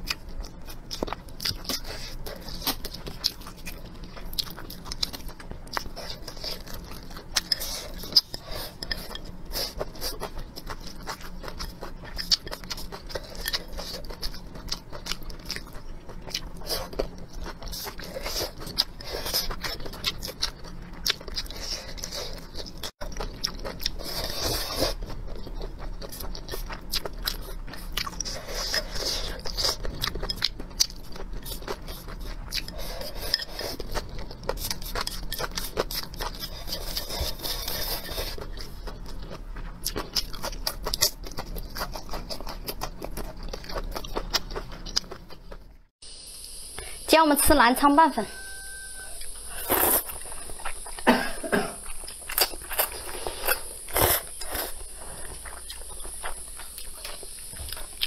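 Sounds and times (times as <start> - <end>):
wet chewing and crunching: 0.0 - 45.9, 48.4 - 58.0.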